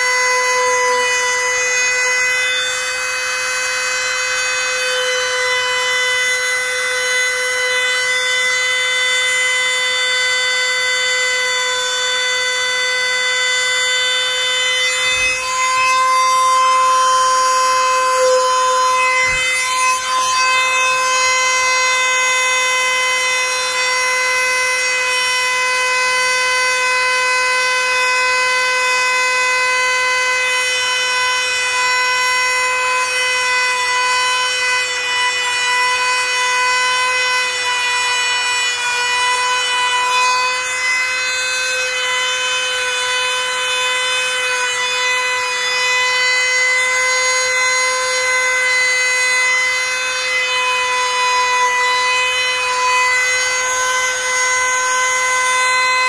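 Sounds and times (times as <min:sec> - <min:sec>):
power tool motor whine: 0:00.0 - 0:56.0.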